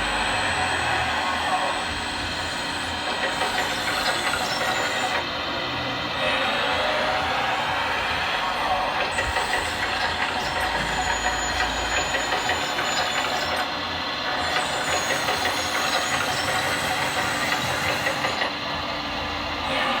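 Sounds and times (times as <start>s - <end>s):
model truck whirring: 0.0s - 20.0s.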